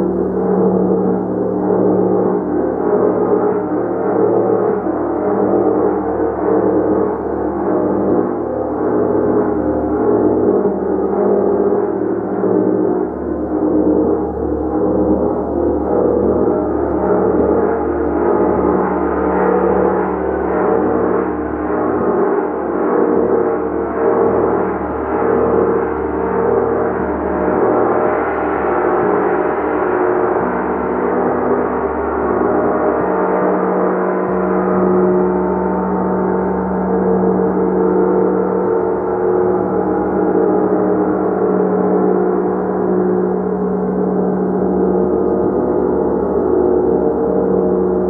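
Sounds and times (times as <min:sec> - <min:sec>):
gong sustained tones: 0:00.0 - 0:48.0.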